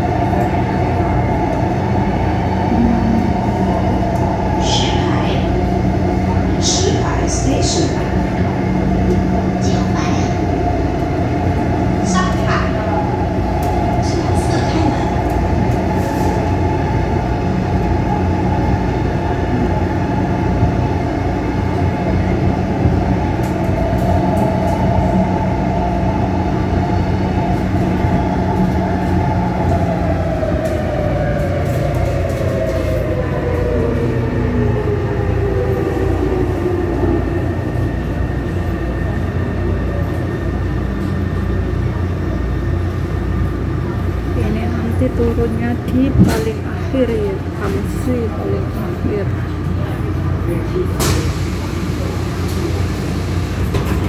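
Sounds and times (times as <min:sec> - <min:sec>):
train rumble with motor whine: 0:00.0 - 0:54.0.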